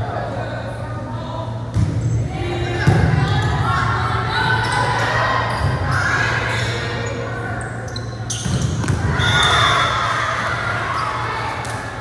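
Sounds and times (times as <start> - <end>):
voices in gymnasium: 0.0 - 12.0.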